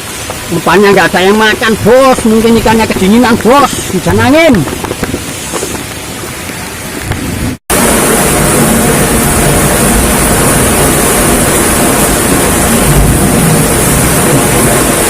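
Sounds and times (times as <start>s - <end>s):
heavy rain pouring: 0.0s - 15.0s
wind rumbling on microphone: 0.0s - 15.0s.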